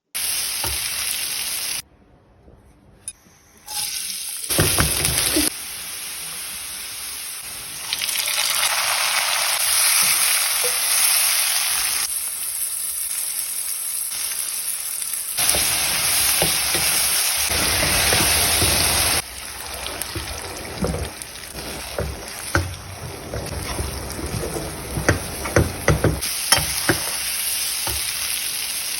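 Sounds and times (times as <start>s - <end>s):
eggs sizzling in a pan: 3.7s - 28.9s.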